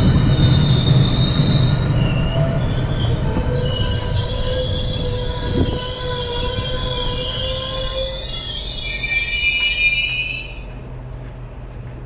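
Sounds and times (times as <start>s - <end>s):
train wheels squealing: 0.0s - 10.9s
train rumbling: 0.0s - 12.0s.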